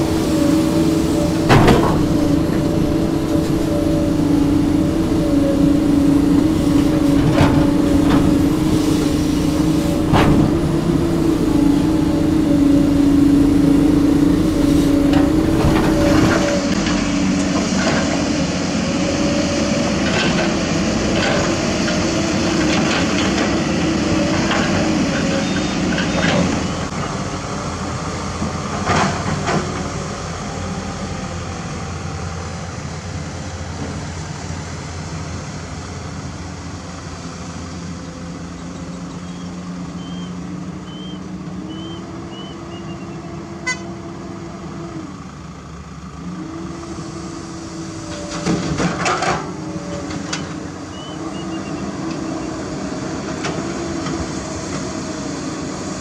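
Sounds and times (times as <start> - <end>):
heavy diesel engines working: 0.0 - 56.0.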